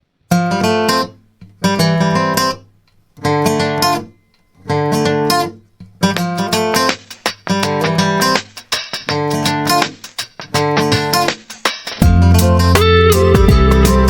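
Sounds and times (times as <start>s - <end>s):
acoustic guitar strumming and plucking: 0.3s - 14.0s.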